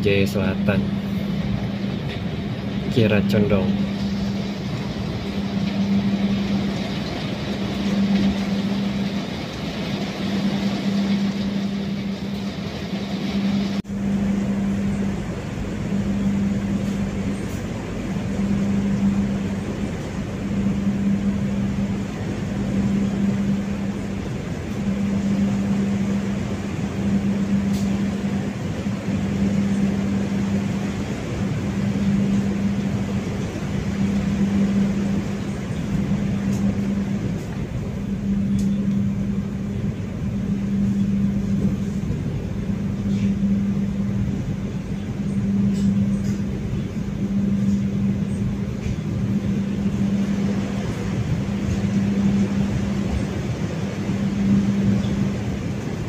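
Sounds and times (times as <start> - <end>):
low pulsing hum: 0.0 - 56.0
train rumble and hiss: 0.0 - 56.0.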